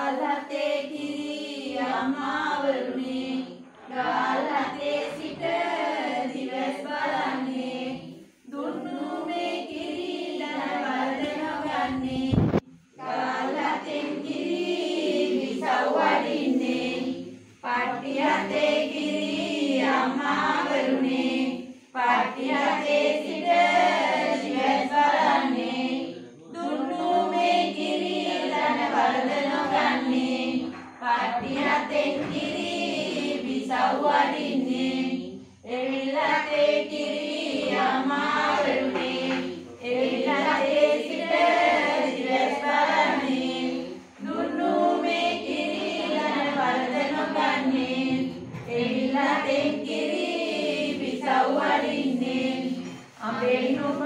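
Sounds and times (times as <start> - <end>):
women chanting in unison: 0.0 - 54.0.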